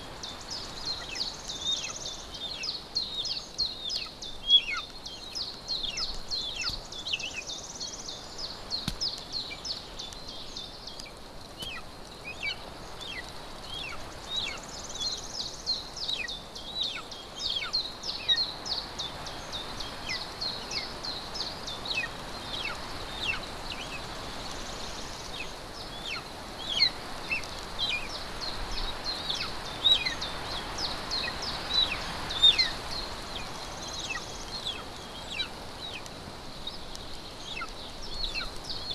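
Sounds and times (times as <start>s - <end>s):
birds chirping: 0.0s - 38.9s
steady outdoor hiss: 0.0s - 38.9s.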